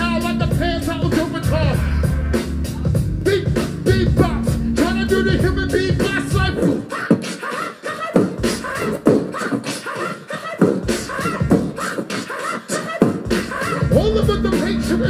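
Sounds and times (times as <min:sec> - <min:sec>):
person beatboxing into microphone: 0:00.0 - 0:15.0.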